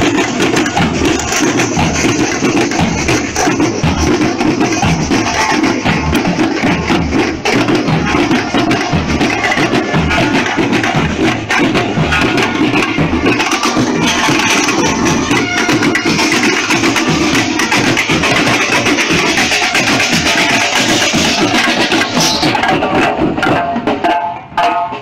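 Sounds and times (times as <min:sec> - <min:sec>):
bass drum beats: 0:00.0 - 0:25.0
rapid snare drum strokes: 0:00.0 - 0:25.0.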